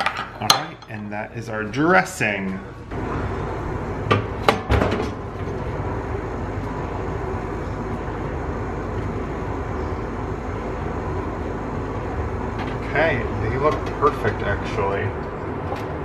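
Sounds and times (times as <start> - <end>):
kitchen fan running: 0.0 - 16.0.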